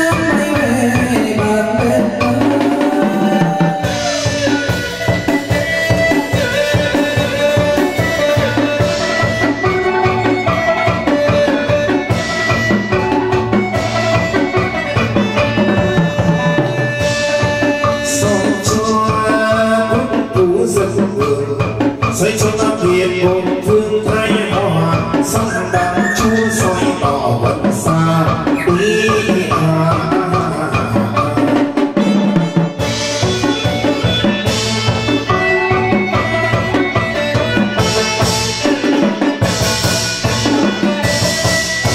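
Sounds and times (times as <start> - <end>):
steady drum beat: 0.0 - 41.9
traditional instrumental melody: 0.0 - 41.9.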